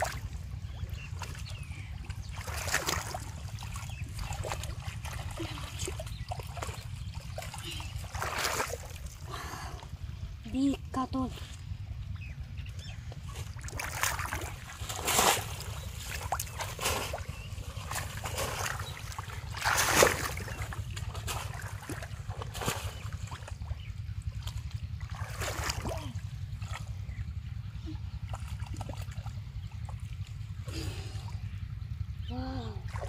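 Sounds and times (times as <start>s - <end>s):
splashing in shallow water: 0.0s - 9.9s, 12.8s - 31.6s, 32.6s - 33.0s
steady low rumble: 0.0s - 33.0s.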